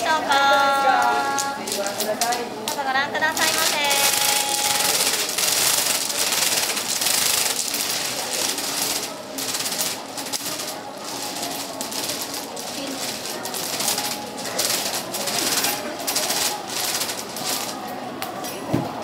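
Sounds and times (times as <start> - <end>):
faint voices: 0.0 - 19.0.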